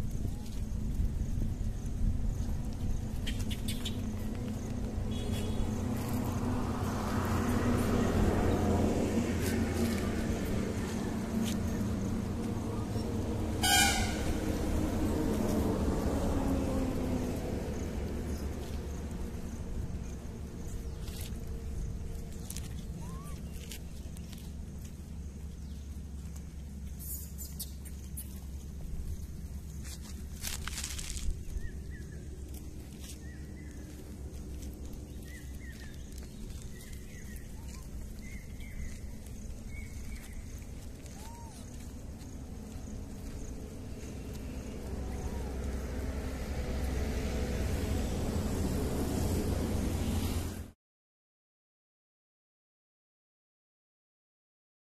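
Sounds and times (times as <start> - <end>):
steady low rumble: 0.0 - 50.2.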